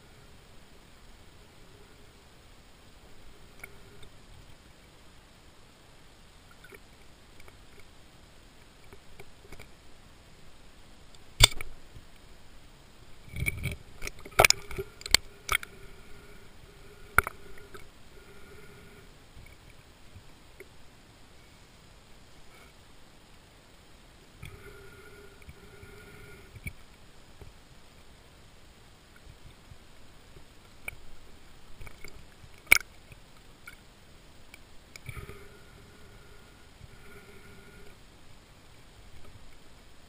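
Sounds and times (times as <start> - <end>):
faint steady hiss: 0.0 - 40.0.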